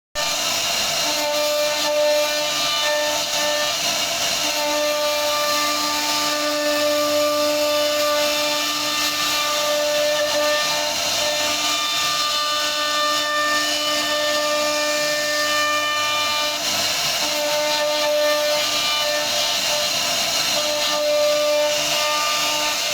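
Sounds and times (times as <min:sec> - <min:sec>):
router cutting wood hiss: 0:00.1 - 0:22.9
machine whining: 0:00.2 - 0:22.9.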